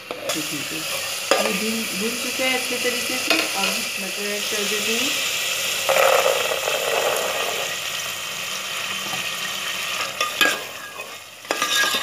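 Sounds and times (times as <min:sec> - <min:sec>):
peas sizzling in hot oil: 0:00.0 - 0:12.0.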